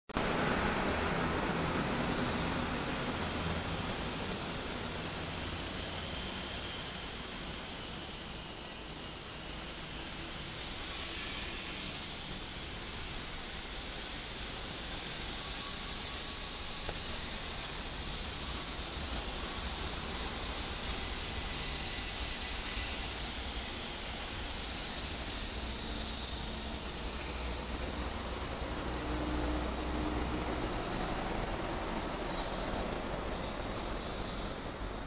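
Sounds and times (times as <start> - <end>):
hiss: 0.2 - 35.0.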